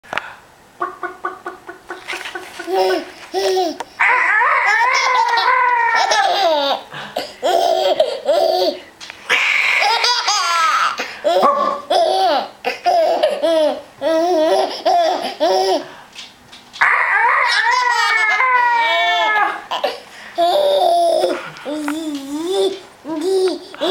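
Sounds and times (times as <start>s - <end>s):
baby laughing: 1.0s - 15.9s, 17.4s - 23.9s.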